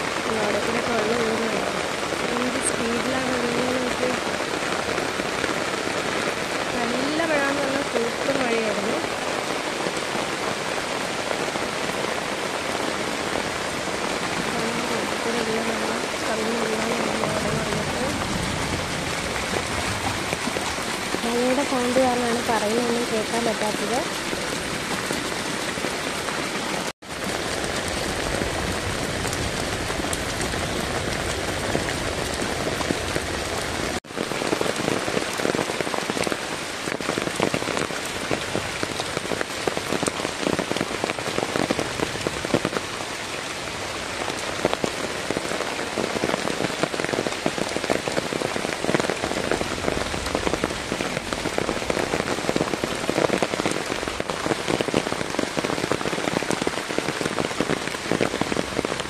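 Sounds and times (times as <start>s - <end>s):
heavy rain pouring on puddles: 0.0s - 59.0s.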